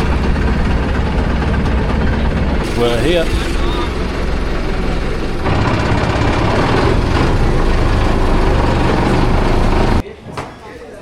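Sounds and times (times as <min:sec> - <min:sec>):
loud rushing noise: 0:00.0 - 0:10.0
vehicle engine droning: 0:00.0 - 0:10.0.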